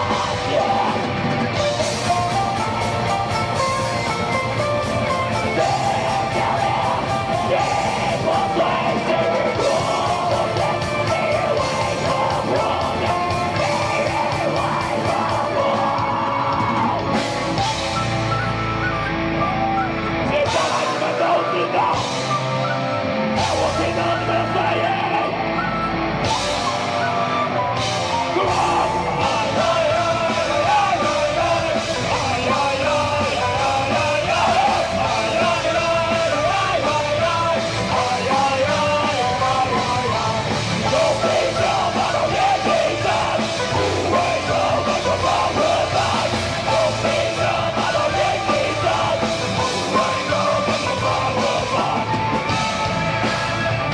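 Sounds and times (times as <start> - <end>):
distorted guitars: 0.0 - 53.9
drums: 0.0 - 53.9.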